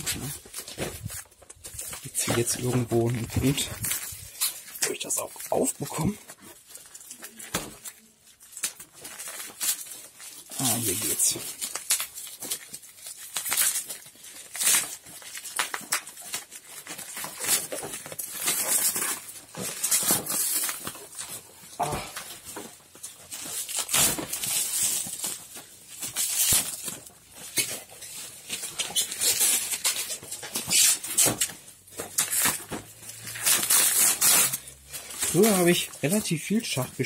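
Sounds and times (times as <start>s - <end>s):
packaging crinkling and tearing: 0.0s - 37.0s.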